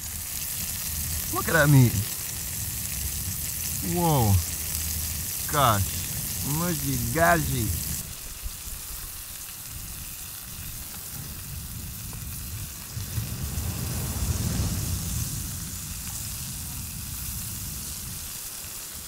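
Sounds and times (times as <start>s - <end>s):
fish sizzling in oil: 0.0s - 19.0s.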